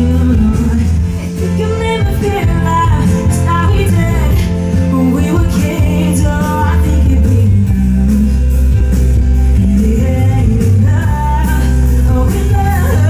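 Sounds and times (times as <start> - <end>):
person singing: 0.0 - 8.6, 9.5 - 13.0
bass and drums: 0.0 - 13.0
guitar: 0.0 - 13.0.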